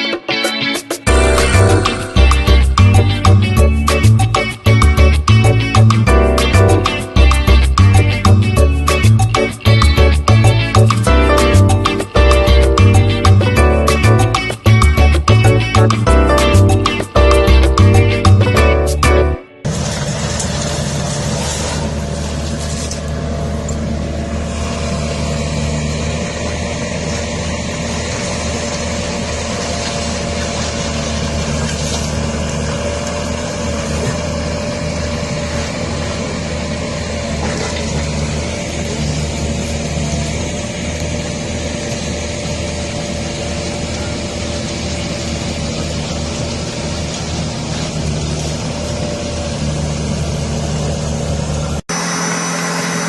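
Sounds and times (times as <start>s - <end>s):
constant whine: 1.0s - 53.0s
heavy machine engine running: 1.1s - 53.0s.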